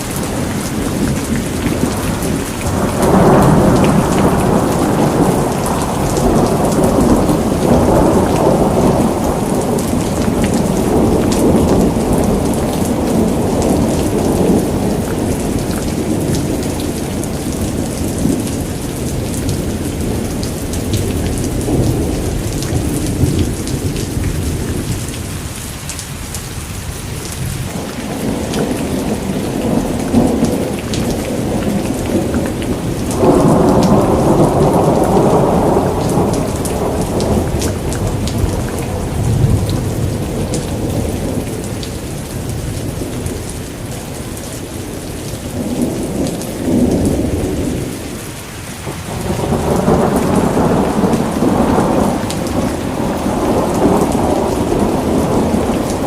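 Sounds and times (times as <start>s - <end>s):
thunder rumbling: 0.0s - 25.5s, 27.1s - 56.0s
heavy rain: 0.0s - 56.0s.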